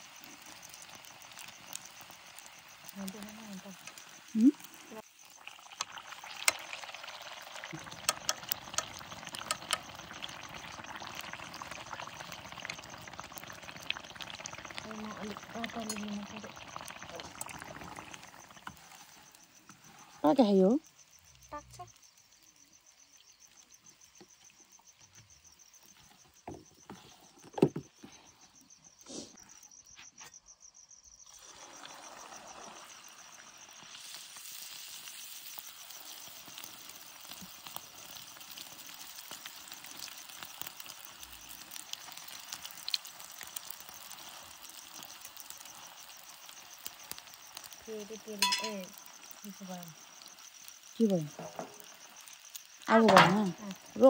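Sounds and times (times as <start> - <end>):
hot oil sizzling: 0.0 - 29.8, 31.1 - 54.0.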